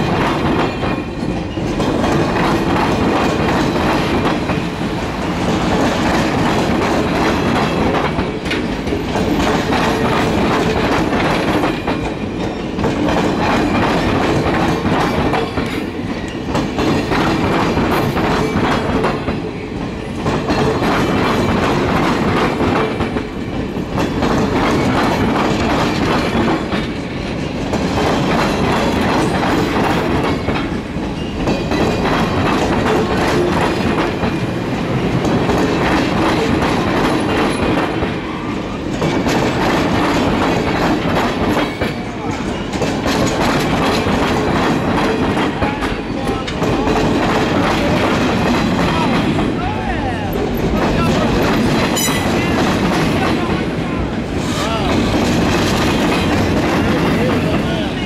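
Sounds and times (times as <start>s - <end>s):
train wheels clattering over crossing: 0.0s - 58.0s.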